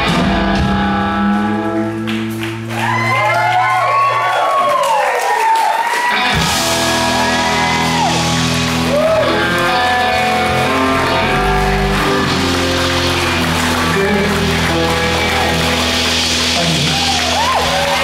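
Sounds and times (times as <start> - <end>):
electric guitar bending notes: 0.0 - 3.2, 6.1 - 18.0
blues-rock band playing: 0.0 - 4.2, 5.8 - 18.0.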